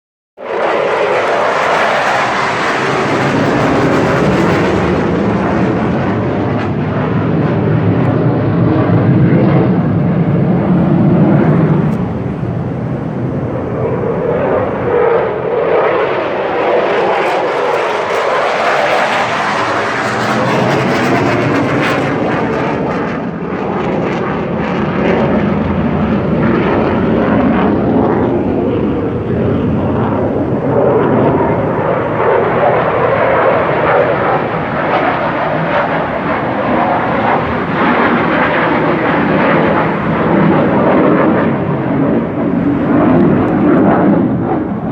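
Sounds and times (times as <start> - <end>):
fighter jet engine roar: 0.4 - 44.9.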